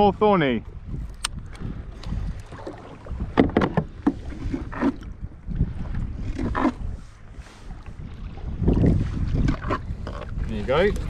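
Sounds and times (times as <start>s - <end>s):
wind buffeting microphone: 0.0s - 11.0s
water splashes: 0.4s - 11.0s.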